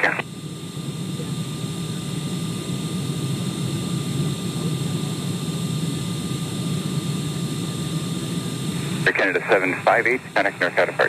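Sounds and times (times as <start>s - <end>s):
low drone of engines and airflow: 0.0s - 11.0s.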